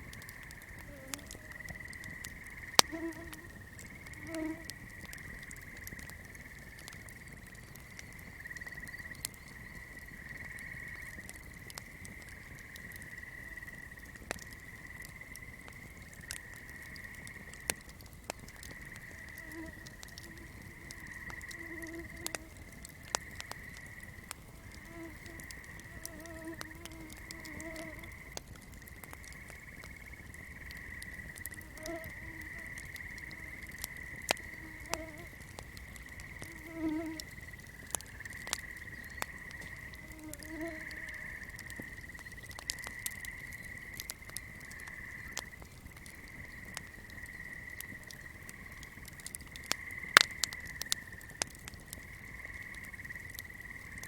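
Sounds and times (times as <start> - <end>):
fire crackling: 0.0 - 54.0
frogs croaking: 0.0 - 54.0.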